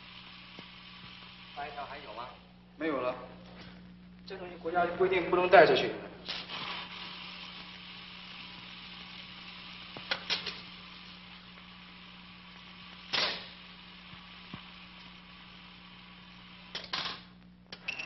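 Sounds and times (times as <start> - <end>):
steady hiss: 0.0 - 17.8.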